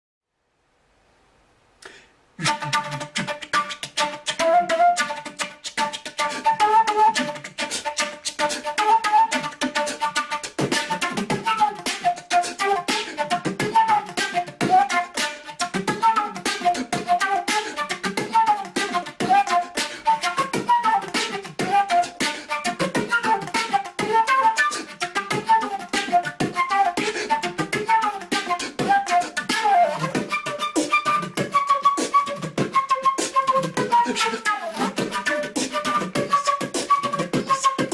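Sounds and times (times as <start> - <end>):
beatbox clicks and thumps: 1.8 - 37.9
flute melody: 2.4 - 37.9.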